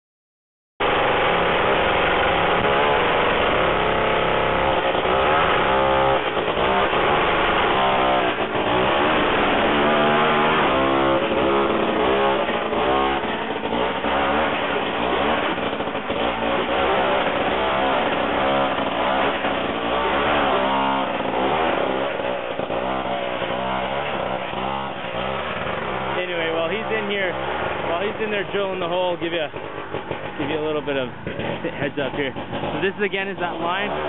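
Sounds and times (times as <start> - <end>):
small engine revving: 0.8 - 34.0.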